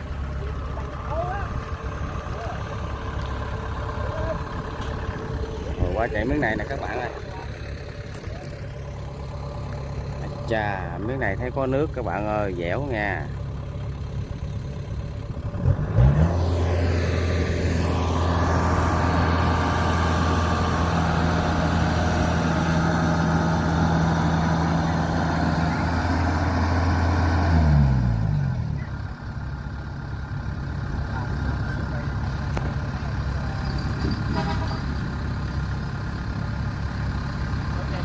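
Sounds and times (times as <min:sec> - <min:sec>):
combine harvester diesel engine: 0:00.0 - 0:38.0.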